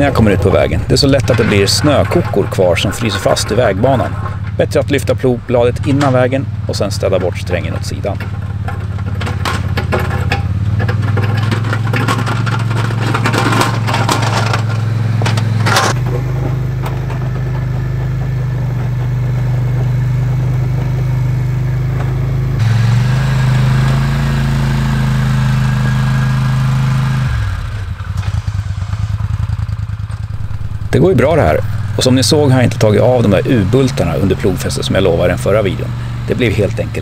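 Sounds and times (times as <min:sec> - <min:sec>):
atv engine running: 0:00.0 - 0:37.0
crackling clatter of plowed snow: 0:00.0 - 0:37.0.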